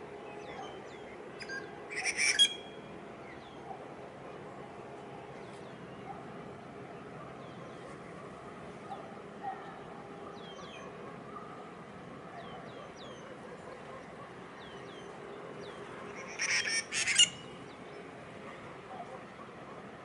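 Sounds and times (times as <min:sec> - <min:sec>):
distant harbour hum: 0:00.0 - 0:20.0.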